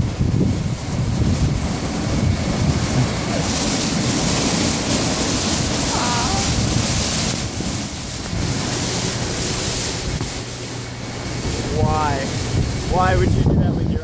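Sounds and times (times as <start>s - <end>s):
rotating car wash brushes: 0.0s - 14.0s
wash machinery rumble: 0.0s - 14.0s
water spray hissing: 0.0s - 14.0s.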